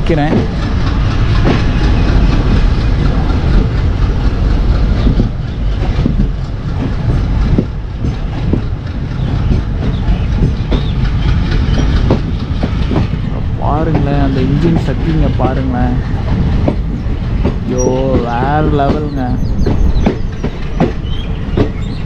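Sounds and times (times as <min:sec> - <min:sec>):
train rumbling on rails: 0:00.0 - 0:22.0
wheels clacking over rail joints: 0:00.0 - 0:22.0.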